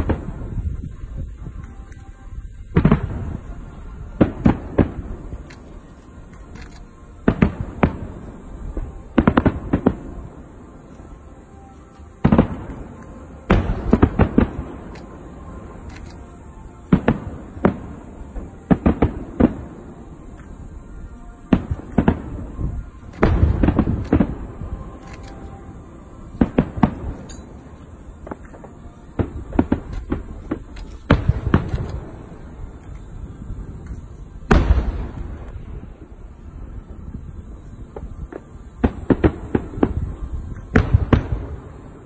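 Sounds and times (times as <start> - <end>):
fireworks booming: 0.0 - 42.0.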